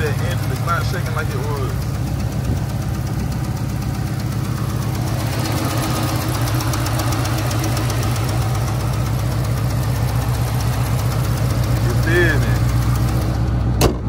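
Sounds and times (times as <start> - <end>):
engine idling with ticking: 0.0 - 14.0.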